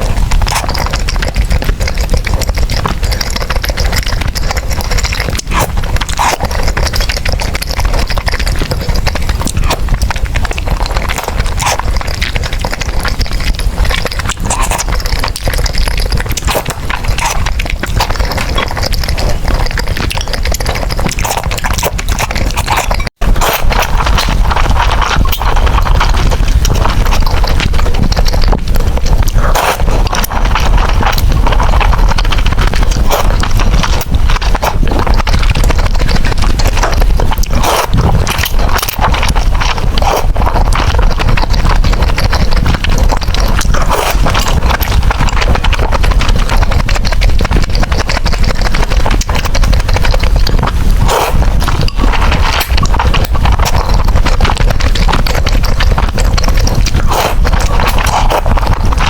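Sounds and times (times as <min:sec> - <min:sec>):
wet chewing and slurping: 0:00.0 - 0:59.0.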